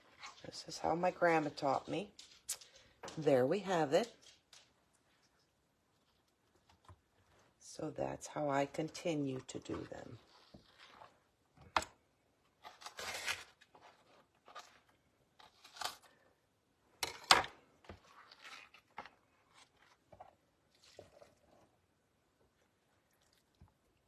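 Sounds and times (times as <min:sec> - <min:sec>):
rustling and crinkling: 0:00.0 - 0:07.6, 0:09.0 - 0:16.2, 0:17.1 - 0:21.8.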